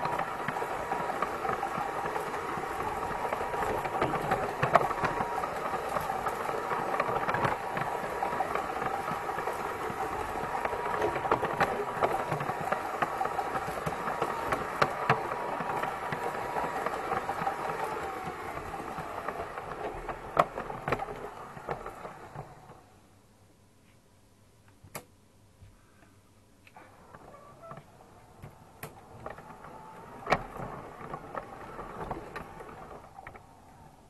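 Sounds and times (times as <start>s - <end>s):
model train motor whine: 0.0s - 22.9s, 26.8s - 34.0s
rattling wheels and gears: 0.0s - 23.2s, 26.7s - 34.0s.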